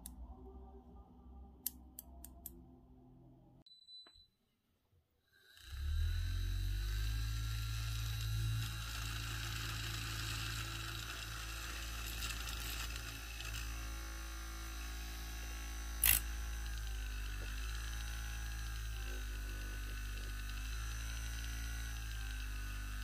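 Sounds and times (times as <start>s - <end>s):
low electric hum: 0.0s - 3.6s, 5.8s - 23.0s.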